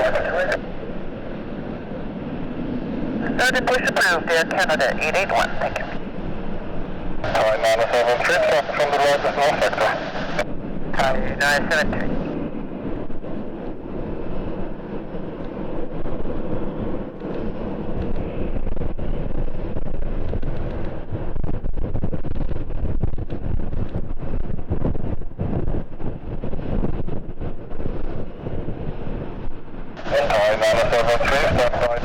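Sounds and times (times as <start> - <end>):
jet engines rumbling: 0.0 - 32.0
wind buffeting microphone: 0.0 - 32.0.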